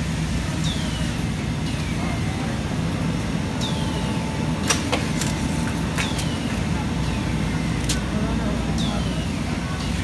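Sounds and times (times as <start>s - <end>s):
factory machinery hum: 0.0s - 10.0s.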